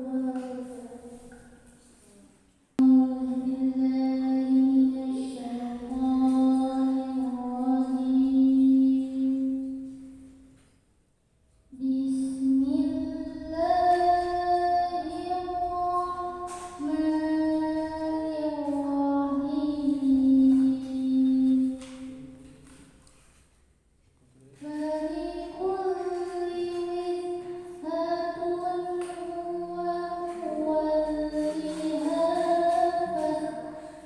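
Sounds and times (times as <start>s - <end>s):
girl reciting melodically: 0.0s - 10.6s, 11.7s - 22.9s, 24.6s - 34.0s.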